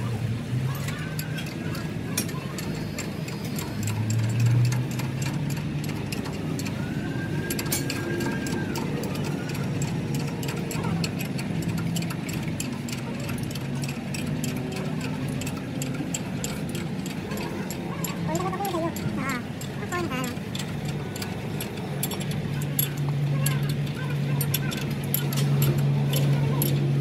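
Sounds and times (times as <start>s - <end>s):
ratchet wrench clicking: 0.7s - 27.0s.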